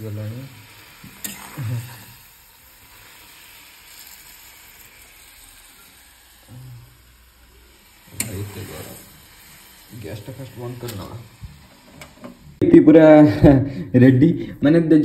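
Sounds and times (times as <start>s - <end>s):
noodles sizzling in pan: 0.0s - 12.6s.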